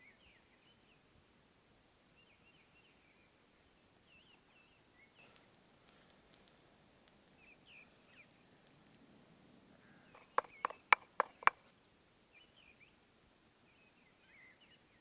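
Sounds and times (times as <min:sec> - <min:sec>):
faint bird chirps: 0:02.2 - 0:13.0, 0:13.6 - 0:15.0.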